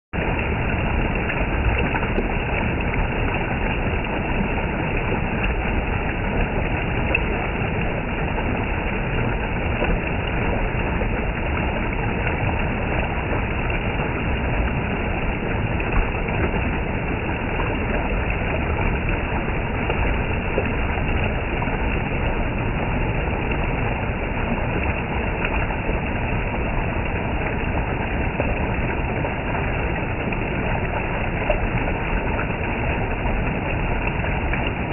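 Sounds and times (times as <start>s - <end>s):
water gushing: 0.2s - 34.9s.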